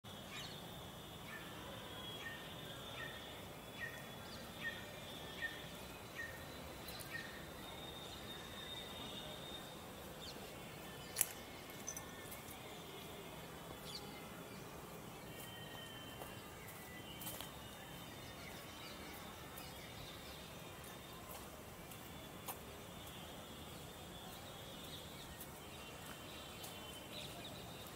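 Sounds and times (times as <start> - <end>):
thin steady high tone: 0.1 - 27.9.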